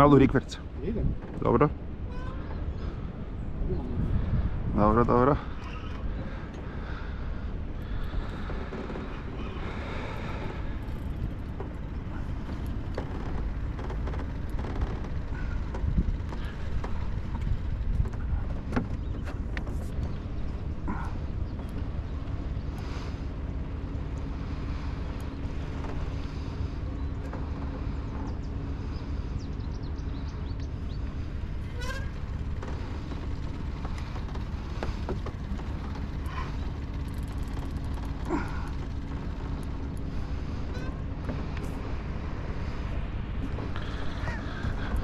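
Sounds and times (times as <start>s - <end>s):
outboard motor running: 0.0s - 45.0s.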